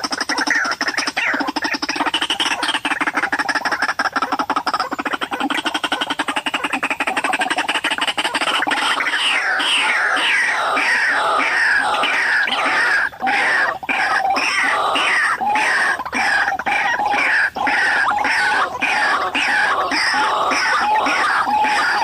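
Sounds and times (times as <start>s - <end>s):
bird calls repeated falling notes: 0.0s - 22.0s.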